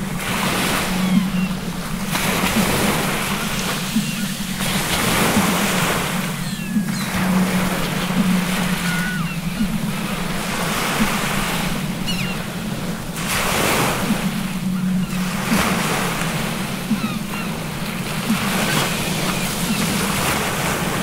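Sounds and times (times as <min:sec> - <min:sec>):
sea waves surging and breaking: 0:00.0 - 0:21.0
steady low hum: 0:00.0 - 0:21.0
seagull cries: 0:00.6 - 0:01.7, 0:02.5 - 0:12.5, 0:14.2 - 0:20.3.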